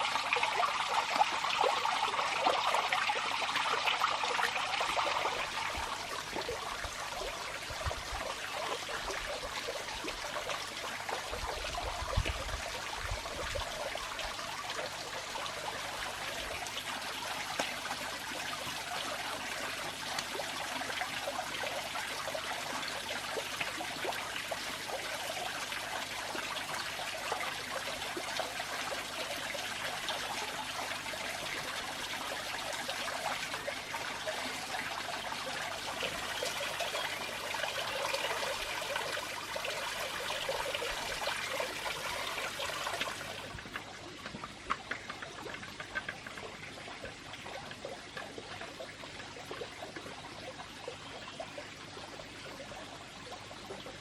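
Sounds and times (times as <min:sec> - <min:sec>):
water running steadily: 0:00.0 - 0:54.0.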